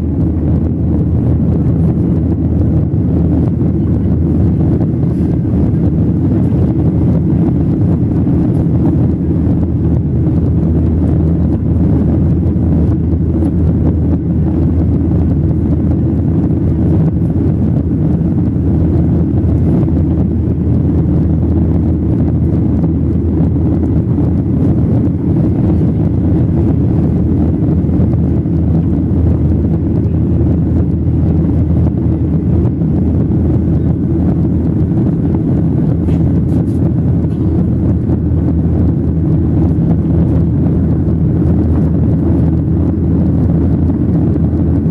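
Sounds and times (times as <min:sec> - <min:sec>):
jet engine cabin rumble: 0:00.0 - 0:44.9.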